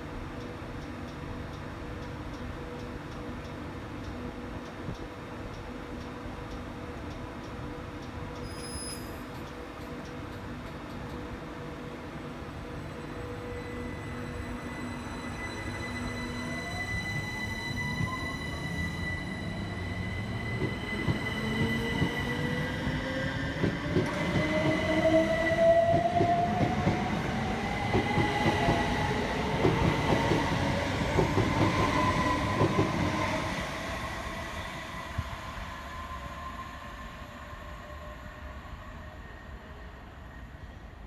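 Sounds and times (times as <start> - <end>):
train wheels rumbling with clicks: 0.0 - 11.8, 13.0 - 35.6.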